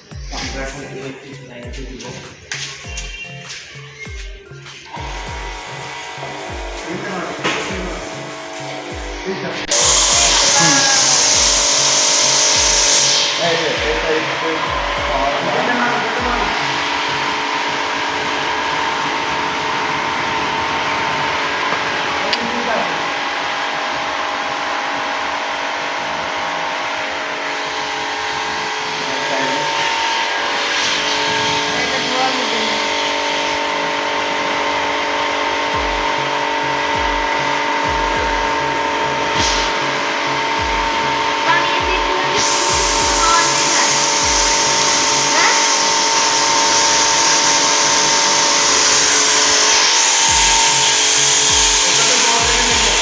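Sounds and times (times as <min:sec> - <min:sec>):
music with deep bass: 0:00.0 - 0:53.0
pressure washer motor whine: 0:00.0 - 0:53.0
water jet hissing: 0:00.0 - 0:53.0.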